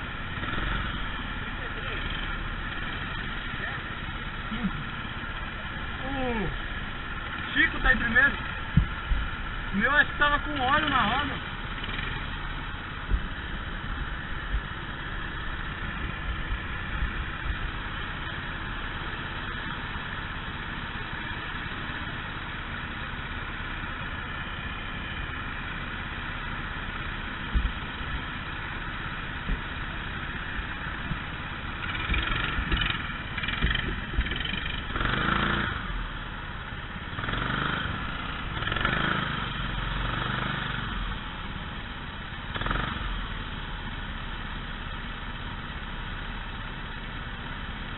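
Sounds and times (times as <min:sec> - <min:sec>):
kart engines droning: 0:00.0 - 0:47.9.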